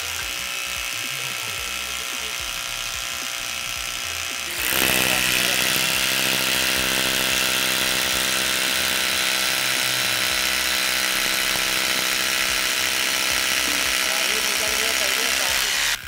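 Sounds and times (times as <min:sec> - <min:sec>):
rotary hammer drill boring into brick: 0:00.0 - 0:16.0.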